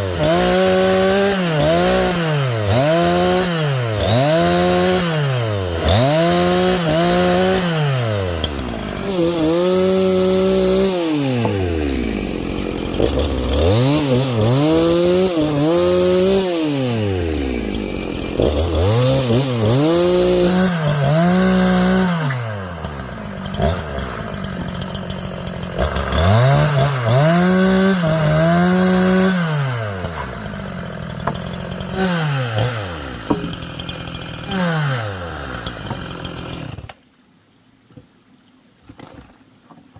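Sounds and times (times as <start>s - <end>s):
chainsaw revving: 0.0s - 37.0s.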